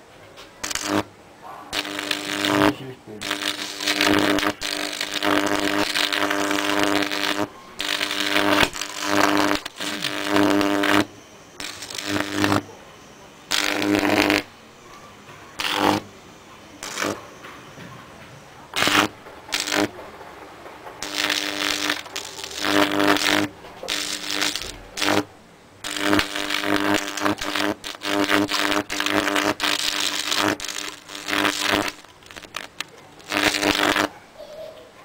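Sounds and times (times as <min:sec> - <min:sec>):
electric arc buzzing crackle: 0:00.6 - 0:12.7, 0:13.3 - 0:14.6, 0:15.5 - 0:17.5, 0:18.7 - 0:34.2.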